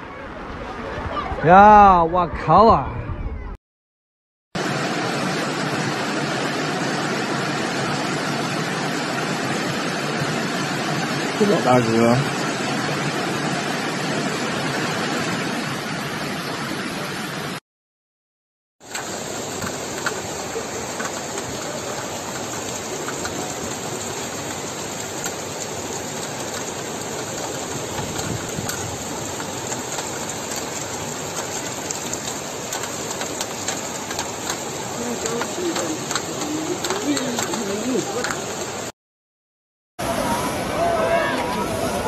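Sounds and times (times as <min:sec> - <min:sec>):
heavy rain: 0:00.0 - 0:02.8, 0:04.6 - 0:17.6, 0:18.8 - 0:38.9, 0:40.0 - 0:42.0
rushing floodwater: 0:04.6 - 0:17.6, 0:18.8 - 0:38.9, 0:40.0 - 0:42.0.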